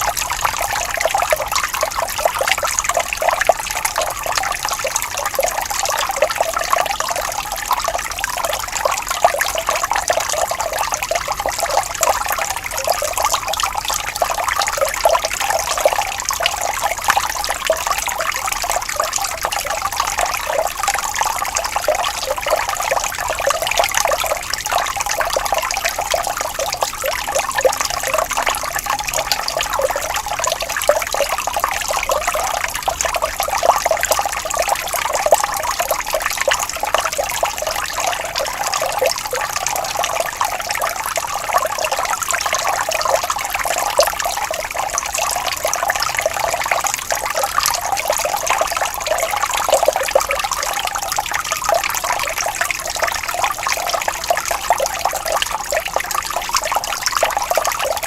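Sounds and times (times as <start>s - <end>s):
stream flowing and bubbling: 0.0s - 58.0s.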